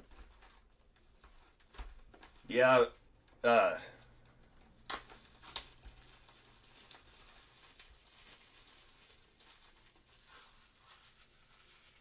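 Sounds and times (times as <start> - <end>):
plastic wrapping crinkling: 0.0 - 3.3, 3.9 - 12.0.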